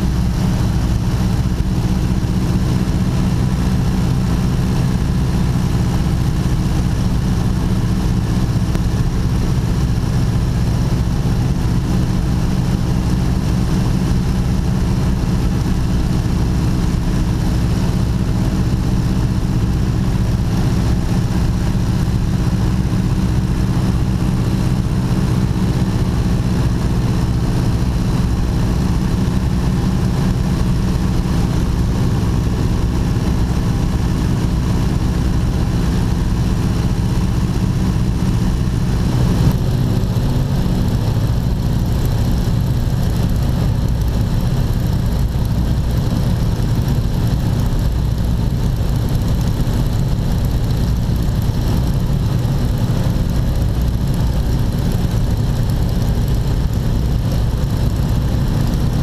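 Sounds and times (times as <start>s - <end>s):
propeller engines droning: 0.0s - 59.0s.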